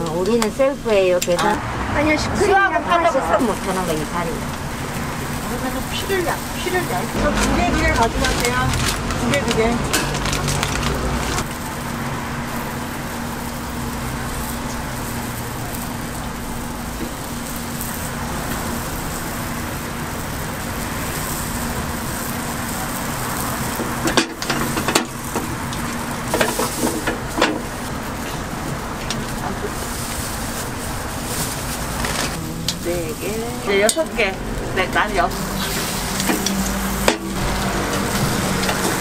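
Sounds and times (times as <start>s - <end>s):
batter sizzling in iron molds: 2.6s - 39.0s.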